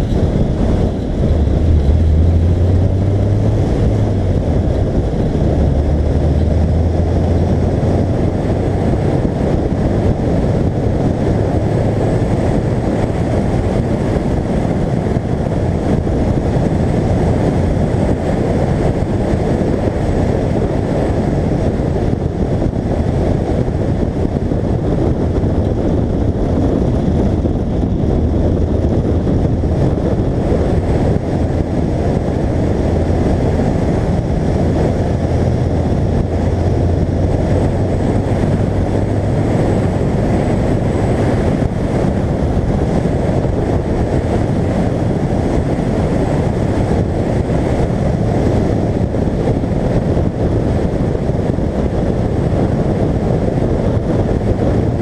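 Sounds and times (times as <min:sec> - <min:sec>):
car engine: 0:00.0 - 0:55.0
road noise: 0:00.0 - 0:55.0
wind buffeting microphone: 0:00.0 - 0:55.0.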